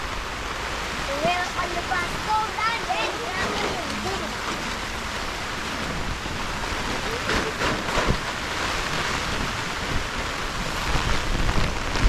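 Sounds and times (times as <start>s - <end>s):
heavy rain: 0.0s - 12.0s
wind gusting against microphone: 0.0s - 12.0s.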